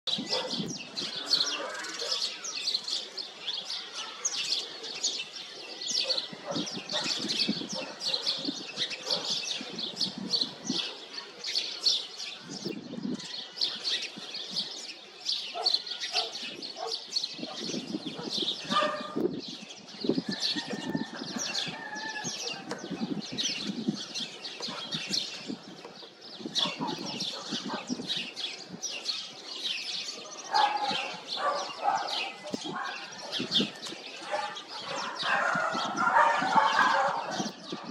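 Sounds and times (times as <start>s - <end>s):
sparrows chirping: 0.1s - 37.9s.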